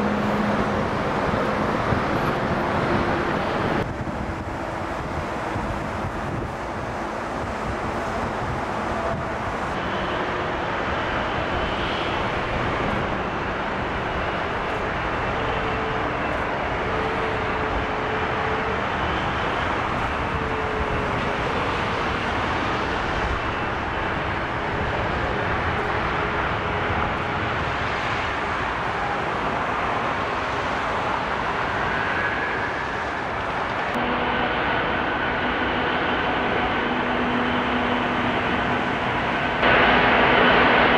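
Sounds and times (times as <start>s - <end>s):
jet engines idling: 0.0s - 40.9s
motorway traffic: 0.0s - 40.9s.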